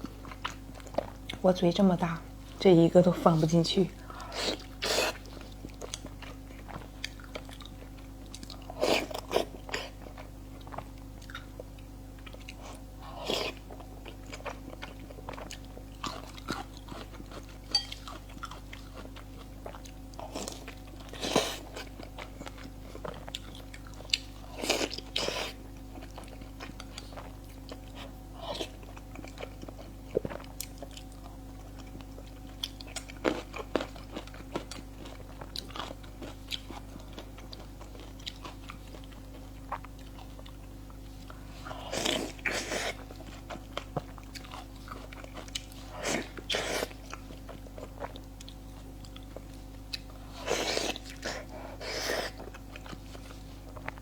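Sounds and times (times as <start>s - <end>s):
faint steady hum: 0.0s - 54.0s
person chewing and biting food: 4.2s - 54.0s.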